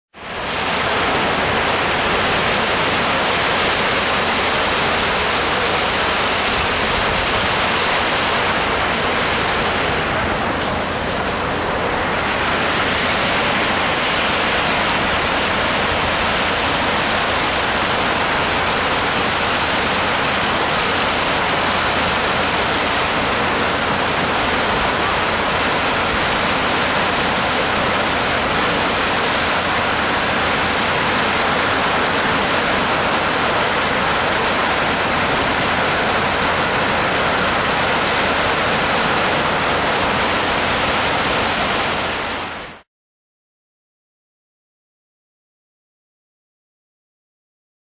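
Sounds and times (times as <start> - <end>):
sea waves washing on shore: 0.2 - 42.9.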